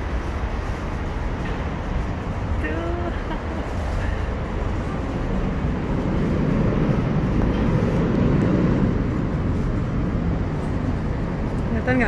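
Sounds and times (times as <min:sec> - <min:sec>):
cable car cabin rumble: 0:00.0 - 0:12.0.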